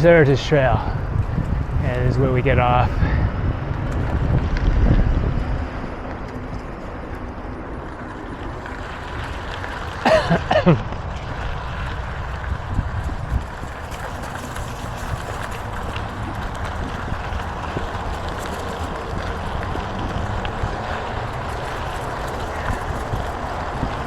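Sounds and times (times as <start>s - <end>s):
bicycle tyre noise: 0.0s - 24.0s
wind rushing over microphone: 0.0s - 24.0s.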